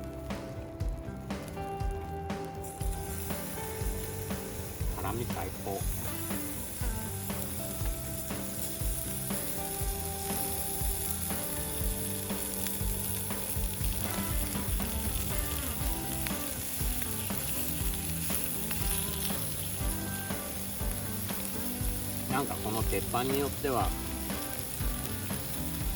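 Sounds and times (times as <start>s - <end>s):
small pops and crackles: 0.0s - 25.9s
meat sizzling on hot plate: 1.3s - 25.9s.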